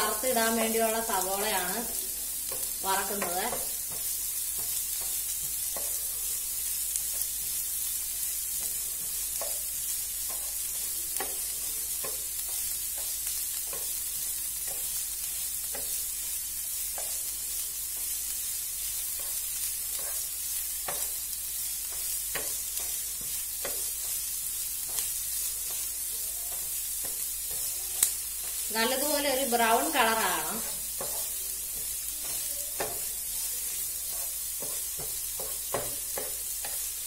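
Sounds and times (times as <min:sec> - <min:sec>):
onions sizzling in oil: 0:00.0 - 0:37.0
spatula scraping and tapping pan: 0:00.0 - 0:37.0.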